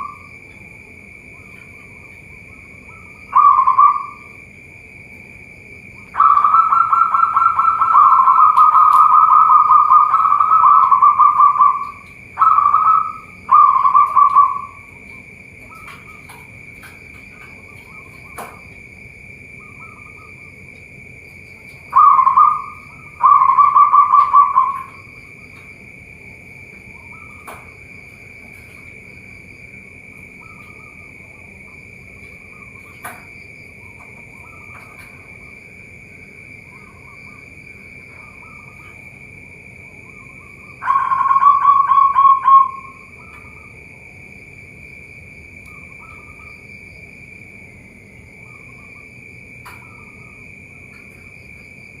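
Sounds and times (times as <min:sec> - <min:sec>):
doves cooing rapidly: 0:00.0 - 0:04.6, 0:05.9 - 0:44.0, 0:48.1 - 0:52.0.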